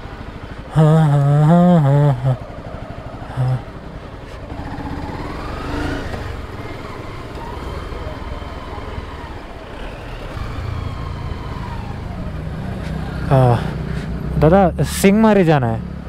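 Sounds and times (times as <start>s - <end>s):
motorcycle engine revving: 0.0s - 16.0s
road and street noise: 0.0s - 16.0s.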